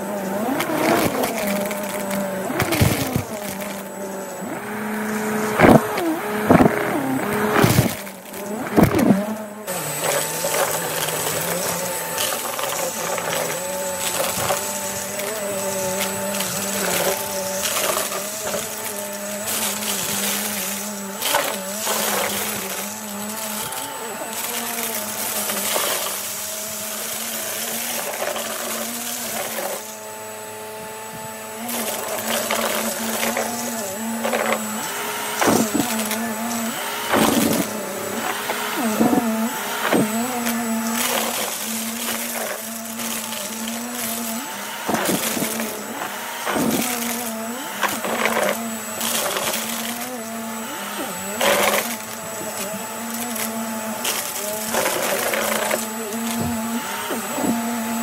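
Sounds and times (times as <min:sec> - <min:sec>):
debris crackling in vacuum: 0:00.0 - 0:58.0
vacuum cleaner running: 0:00.0 - 0:58.0.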